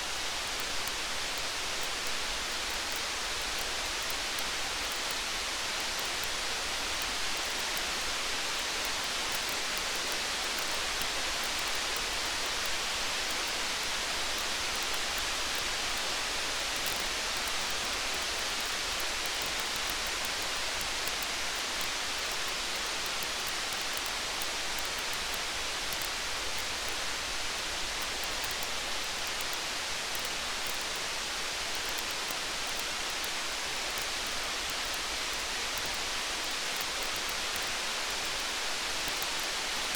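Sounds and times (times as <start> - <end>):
faint ticks and crackles: 0.0 - 39.9
steady rain: 0.0 - 39.9.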